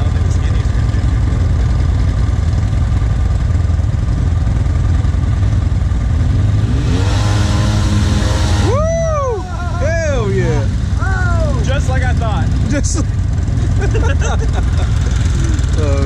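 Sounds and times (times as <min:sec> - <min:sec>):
atv engine droning and revving: 0:00.0 - 0:16.0.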